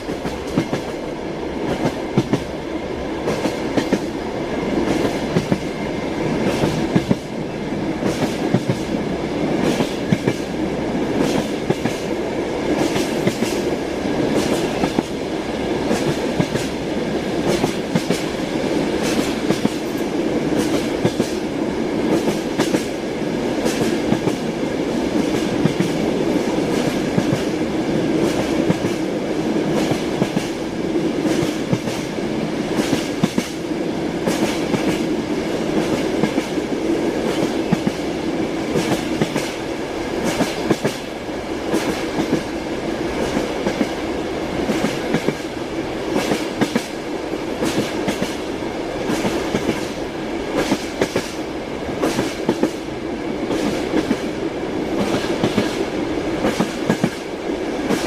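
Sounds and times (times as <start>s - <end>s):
train wheels clicking over joints: 0.0s - 2.6s, 3.2s - 7.4s, 8.0s - 52.8s, 53.4s - 58.0s
railway carriage rumble: 0.0s - 58.0s.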